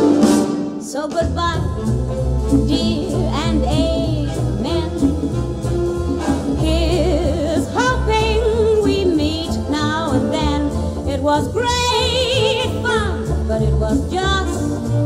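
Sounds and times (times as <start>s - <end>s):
band accompaniment with bass pulse: 0.0s - 15.0s
woman singing with vibrato: 0.8s - 5.5s, 6.5s - 15.0s.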